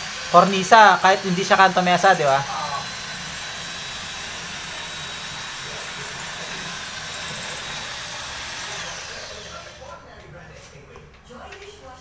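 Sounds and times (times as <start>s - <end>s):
electric drill whining: 0.0s - 10.0s.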